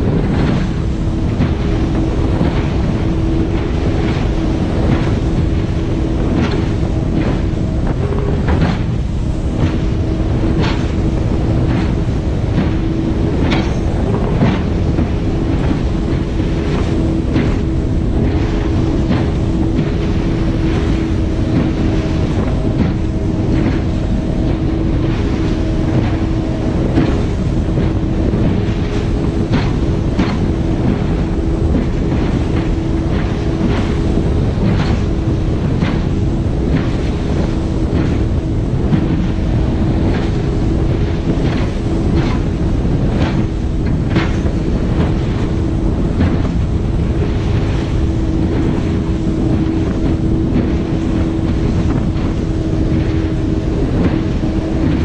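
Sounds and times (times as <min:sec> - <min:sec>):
hull slapping waves: 0:00.0 - 0:55.0
speedboat engine: 0:00.0 - 0:55.0
wind and water rushing: 0:00.0 - 0:55.0.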